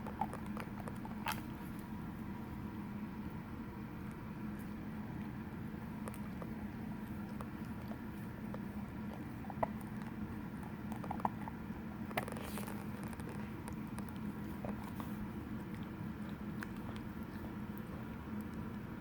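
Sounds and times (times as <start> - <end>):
dog chewing at its leg: 0.0 - 2.2, 4.0 - 19.0
steady low hum: 0.0 - 19.0.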